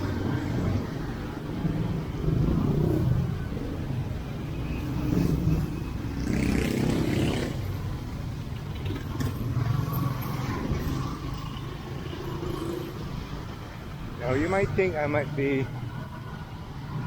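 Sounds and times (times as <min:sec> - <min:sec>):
vehicles passing close by: 0:00.0 - 0:17.0.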